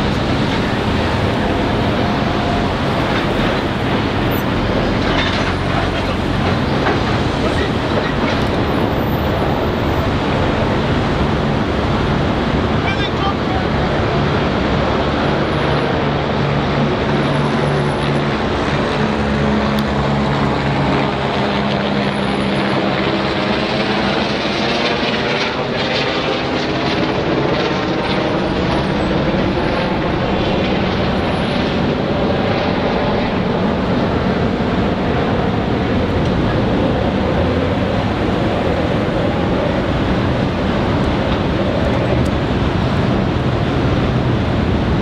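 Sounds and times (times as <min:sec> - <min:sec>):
train wheels rumbling on rails: 0:00.0 - 0:25.6, 0:27.1 - 0:45.0.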